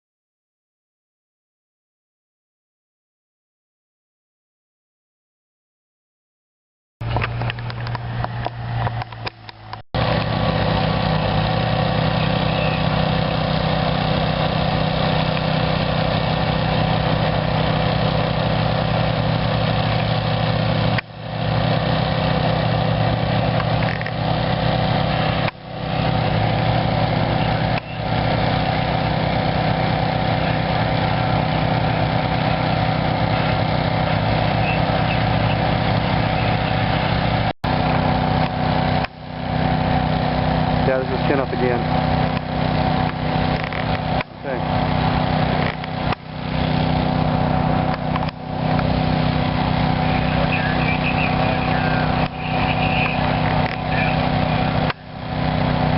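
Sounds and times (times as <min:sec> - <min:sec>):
engine idling: 0:07.0 - 0:55.9.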